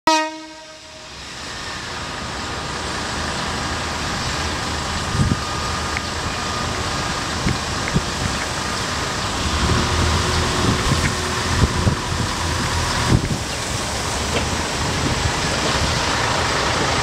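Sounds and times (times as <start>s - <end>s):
diesel railcar rumble: 0.1s - 17.0s.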